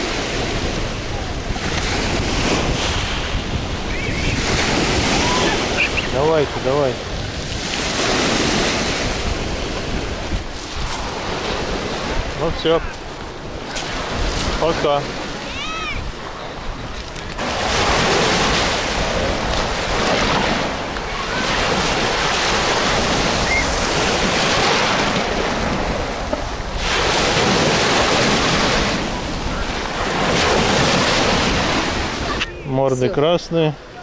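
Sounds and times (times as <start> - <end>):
waves breaking on pebble beach: 0.0 - 34.0.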